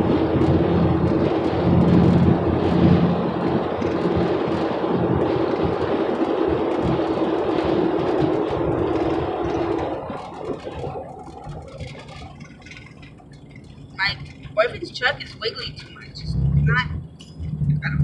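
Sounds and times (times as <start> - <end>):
low road rumble: 0.0 - 18.0
truck engine hum: 0.0 - 18.0.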